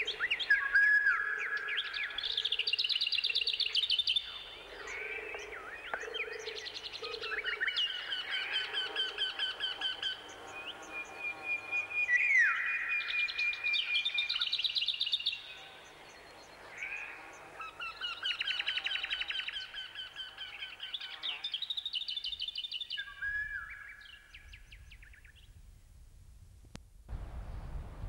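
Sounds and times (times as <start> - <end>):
songbirds singing: 0.0 - 25.6.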